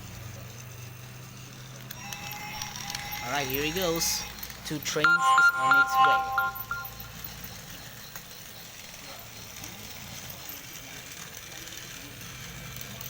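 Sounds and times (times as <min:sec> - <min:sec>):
toy train motors humming: 0:00.0 - 0:13.0.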